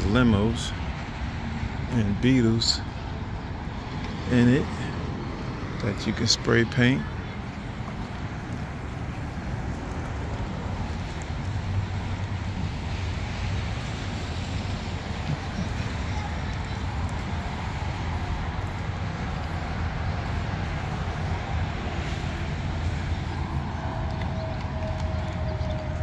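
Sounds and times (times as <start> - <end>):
road traffic hiss: 0.0 - 26.0.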